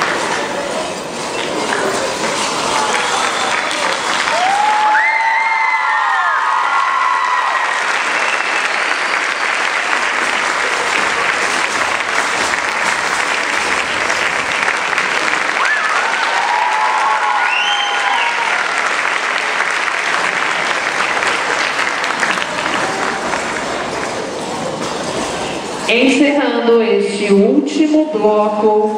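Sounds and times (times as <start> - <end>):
audience applauding: 1.3 - 25.5.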